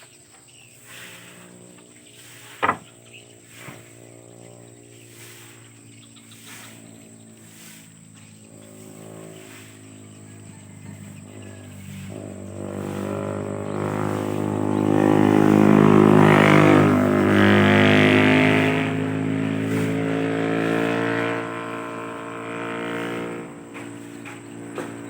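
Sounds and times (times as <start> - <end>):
vehicle engine passing by: 0.2 - 25.0.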